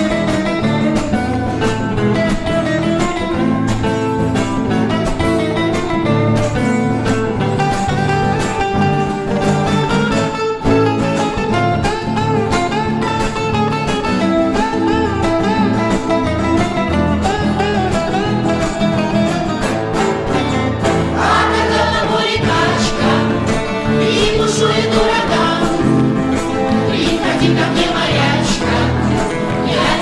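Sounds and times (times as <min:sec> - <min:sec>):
instrumental song with guitar and bass: 0:00.0 - 0:30.0.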